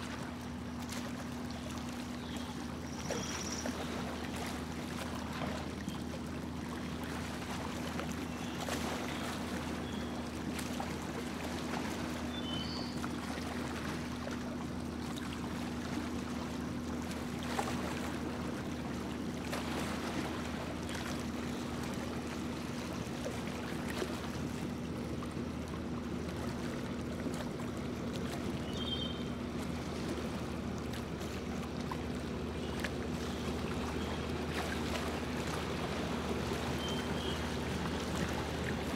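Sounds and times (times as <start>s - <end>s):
boat motor droning: 0.0s - 38.9s
water splashing along hull: 0.0s - 38.9s.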